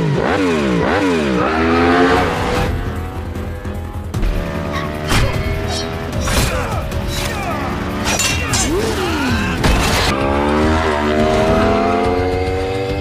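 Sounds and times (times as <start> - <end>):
motorcycle engines revving: 0.0 - 13.0
music: 0.0 - 13.0.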